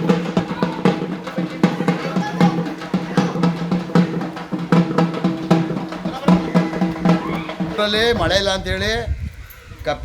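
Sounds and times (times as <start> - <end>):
rapid drumbeats: 0.0 - 8.7.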